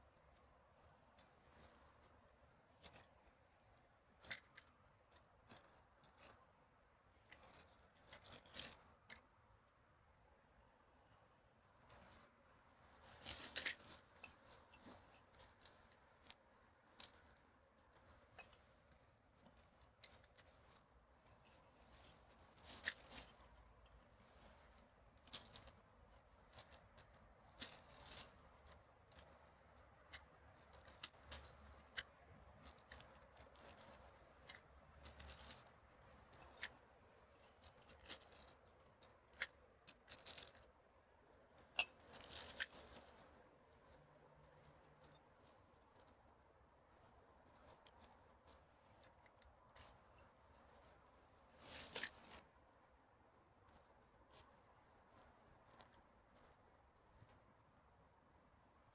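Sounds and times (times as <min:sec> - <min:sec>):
rustling of litter and dry leaves: 0:00.0 - 0:09.8, 0:11.8 - 0:58.9.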